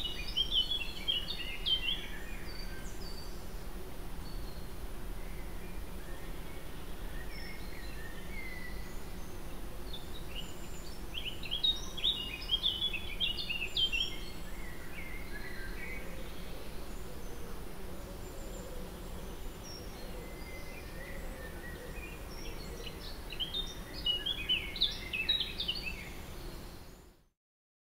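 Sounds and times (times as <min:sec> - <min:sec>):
steady outdoor hum: 0:00.0 - 0:27.1
birdsong: 0:00.0 - 0:27.2.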